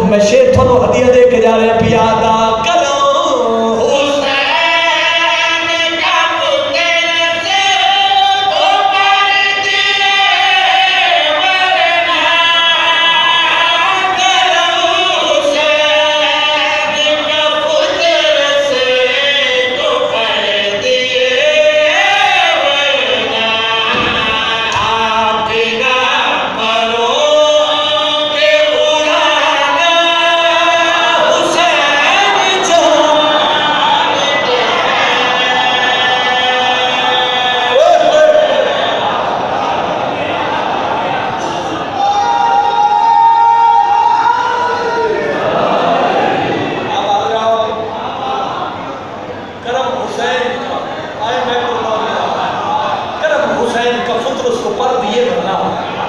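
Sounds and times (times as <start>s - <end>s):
men chanting devotional song: 0.0s - 56.0s.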